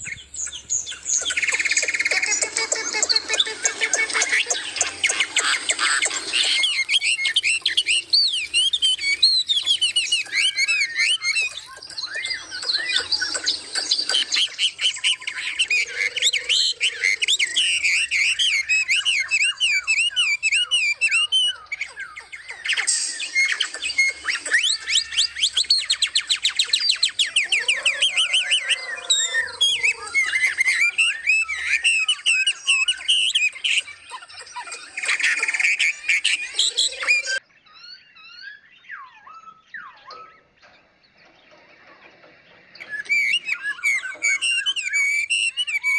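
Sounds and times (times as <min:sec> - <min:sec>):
low harsh bird calls: 0:00.0 - 0:45.9
songbirds warbling and chirping: 0:00.0 - 0:45.9.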